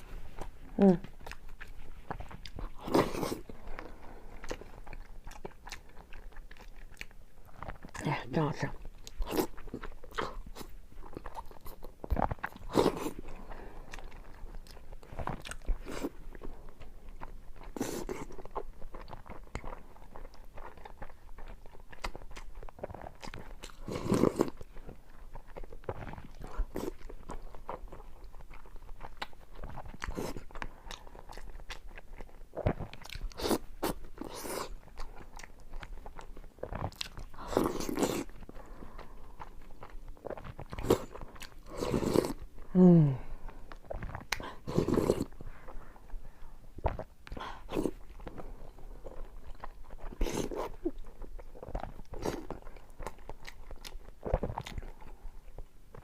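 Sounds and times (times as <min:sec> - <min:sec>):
chewing and wet mouth noises: 0:00.0 - 0:56.0.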